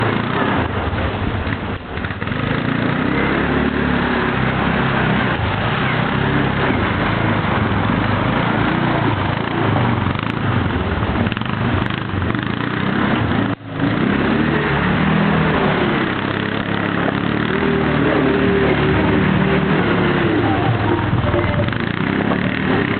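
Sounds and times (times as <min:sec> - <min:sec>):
quad bike engine revving: 0:00.0 - 0:22.9.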